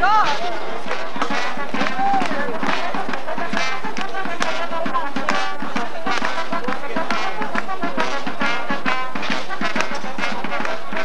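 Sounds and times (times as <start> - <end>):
crowd voices: 0.0 - 11.0
live band with brass: 0.0 - 11.0
quick steady drum beat: 0.0 - 11.0.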